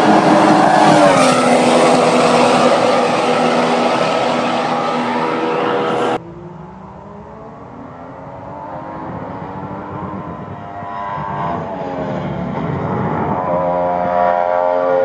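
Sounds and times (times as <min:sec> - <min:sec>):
quieter engine rising in pitch: 0:00.0 - 0:15.0
racing car engine at high revs: 0:00.0 - 0:15.0.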